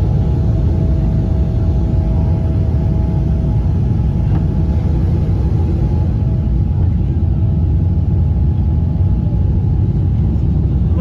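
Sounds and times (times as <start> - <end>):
jet engines and airflow rumbling: 0.0 - 11.0.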